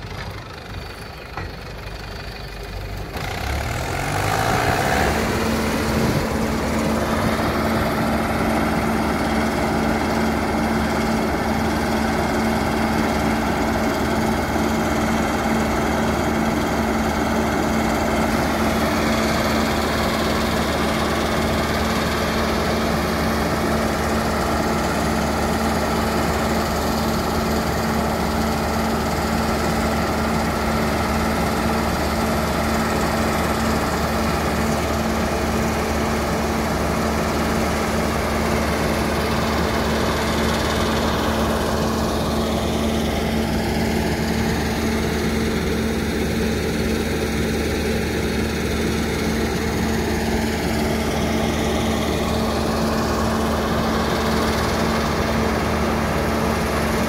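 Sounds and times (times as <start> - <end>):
combine harvester engine: 0.0 - 57.0
grain auger unloading: 0.0 - 57.0.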